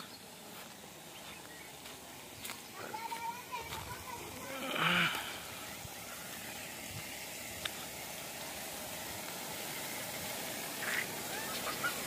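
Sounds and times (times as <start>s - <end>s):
water hissing from pipe leak: 0.0s - 12.0s.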